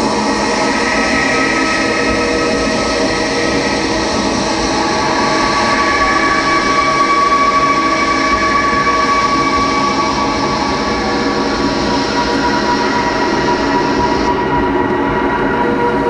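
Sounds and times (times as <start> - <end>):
dense mechanical drone: 0.0 - 16.0.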